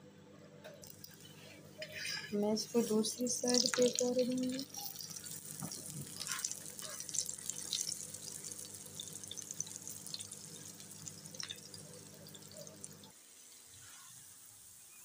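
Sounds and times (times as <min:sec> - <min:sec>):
flatbread sizzling in oil: 0:00.8 - 0:15.0.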